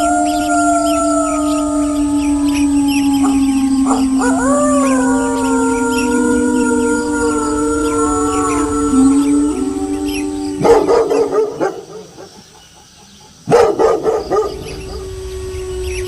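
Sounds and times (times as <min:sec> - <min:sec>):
wolves howling: 0:00.0 - 0:12.4, 0:13.5 - 0:16.0.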